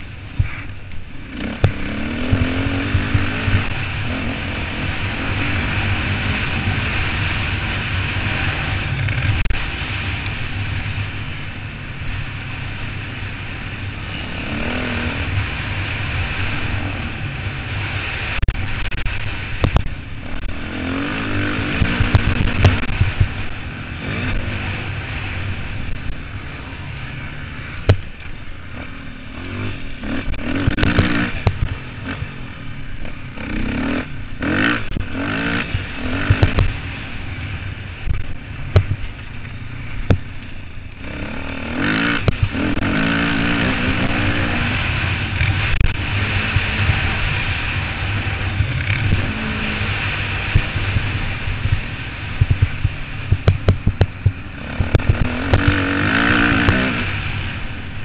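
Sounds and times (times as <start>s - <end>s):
motocross bike engines revving: 0.0s - 58.0s
steady rushing noise: 0.0s - 58.0s.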